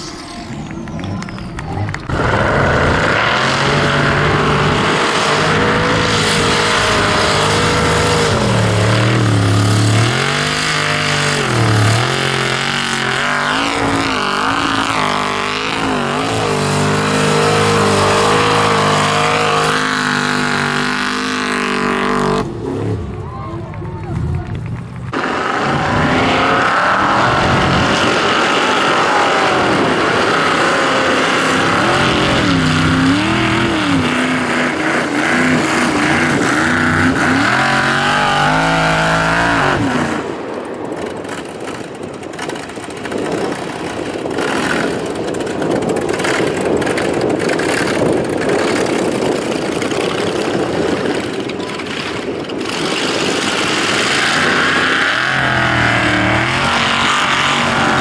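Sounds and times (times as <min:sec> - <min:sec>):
racing engine revving: 0:00.0 - 0:23.3, 0:24.0 - 0:58.0.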